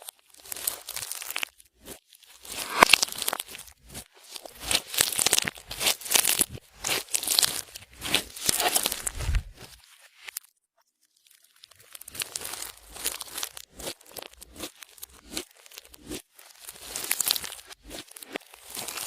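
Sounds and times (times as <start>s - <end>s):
slime squishing and popping: 0.4s - 9.7s, 11.9s - 19.0s.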